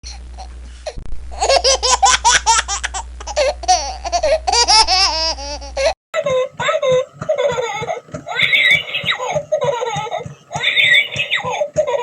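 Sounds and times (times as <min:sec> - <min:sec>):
steady low hum: 0:00.0 - 0:12.0
baby giggling: 0:01.3 - 0:12.0.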